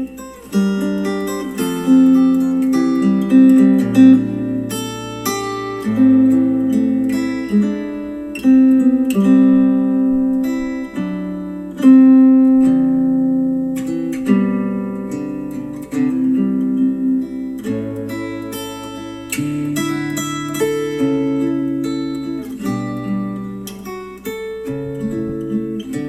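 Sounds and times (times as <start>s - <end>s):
acoustic guitar chords: 0.0s - 26.0s.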